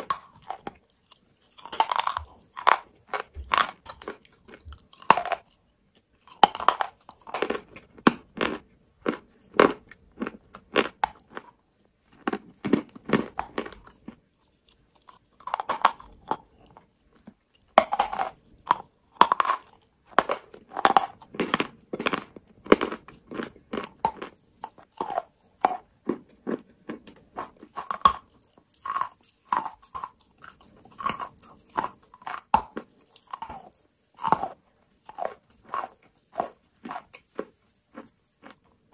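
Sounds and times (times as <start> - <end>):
chalk crunching while chewed: 0.0 - 38.9.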